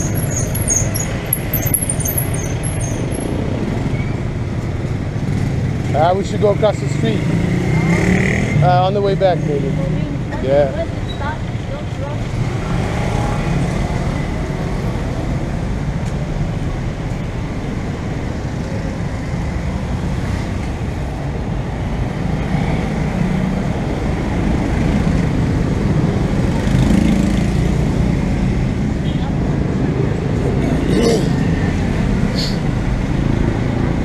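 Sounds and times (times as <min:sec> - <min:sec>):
scooters and cars passing: 0:00.0 - 0:34.0.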